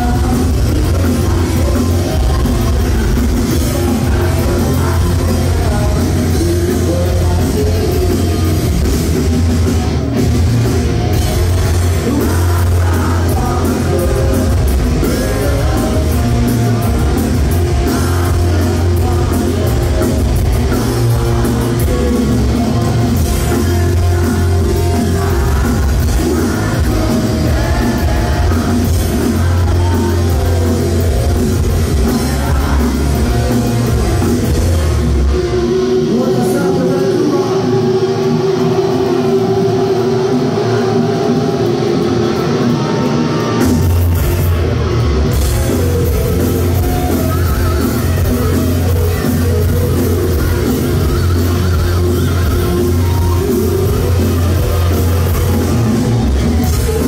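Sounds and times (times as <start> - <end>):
man singing: 0.0 - 9.2, 11.1 - 42.5, 45.3 - 57.0
heavy metal band playing live: 0.0 - 57.0.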